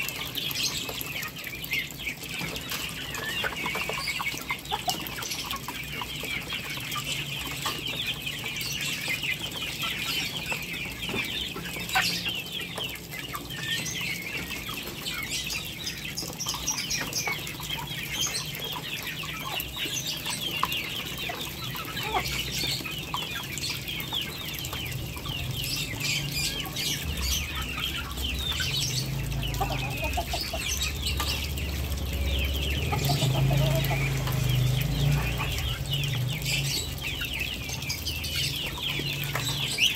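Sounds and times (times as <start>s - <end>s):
chickens clucking and chirping: 0.0s - 39.9s.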